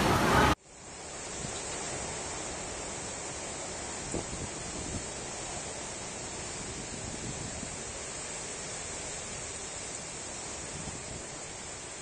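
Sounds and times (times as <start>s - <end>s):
heavy rain: 0.0s - 12.0s
strong wind: 0.0s - 12.0s.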